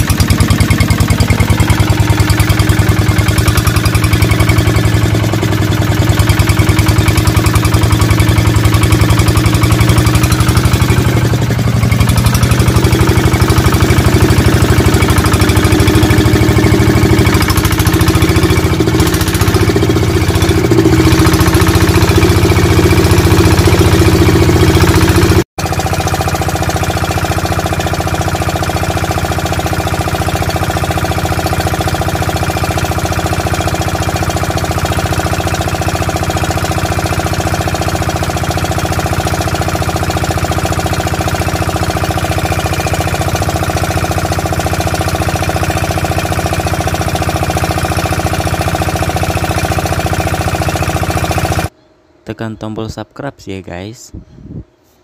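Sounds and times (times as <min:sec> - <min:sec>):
diesel engine chugging: 0:00.0 - 0:51.8.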